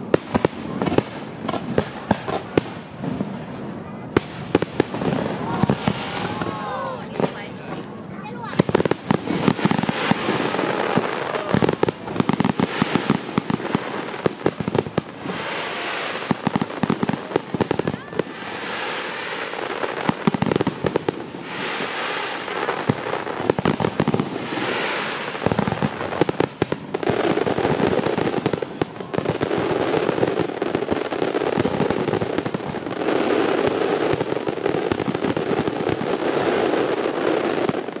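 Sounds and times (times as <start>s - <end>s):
fireworks cracking and banging: 0.0s - 38.0s.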